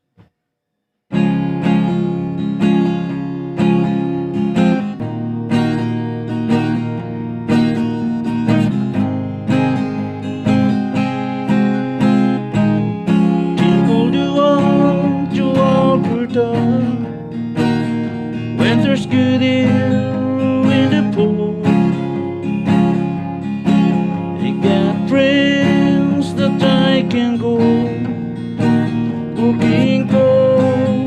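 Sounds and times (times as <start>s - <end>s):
acoustic guitar strumming: 1.1s - 31.0s.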